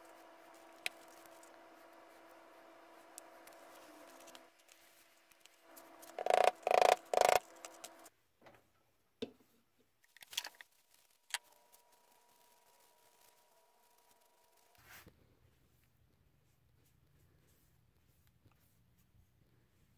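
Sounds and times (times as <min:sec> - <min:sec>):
faint electrical hum: 0:00.0 - 0:19.9.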